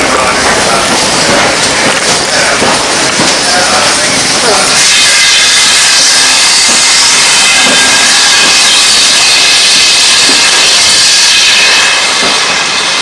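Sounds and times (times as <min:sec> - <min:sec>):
steam locomotive venting steam: 0:00.0 - 0:13.0.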